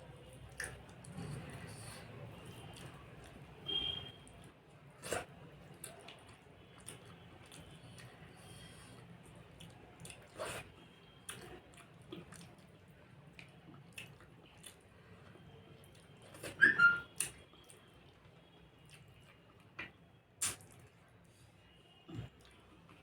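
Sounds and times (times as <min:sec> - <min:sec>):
chewing and mouth clicks: 0:00.4 - 0:19.8, 0:20.4 - 0:21.0.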